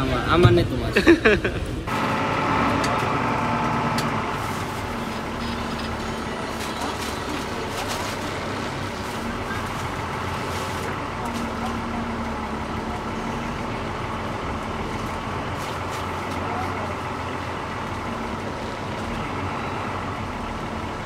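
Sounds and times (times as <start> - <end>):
diesel bus engine drone: 0.0 - 21.0.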